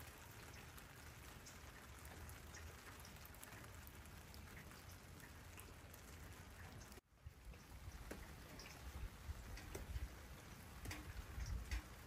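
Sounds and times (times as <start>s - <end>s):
faint rainfall: 0.0s - 12.0s
raindrops ticking: 0.0s - 12.0s.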